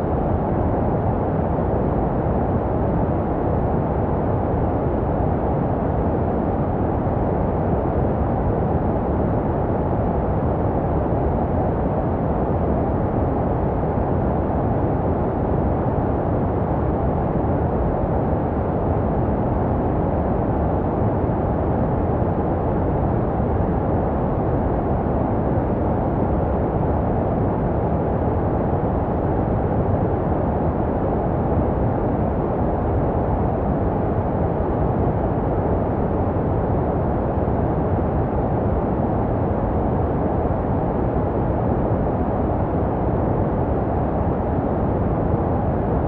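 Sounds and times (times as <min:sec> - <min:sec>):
low muffled white noise: 0:00.0 - 0:46.0.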